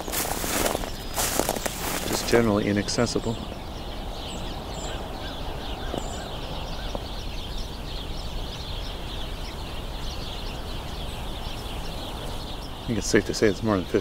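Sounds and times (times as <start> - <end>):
sparrows chattering: 0.0 - 14.0.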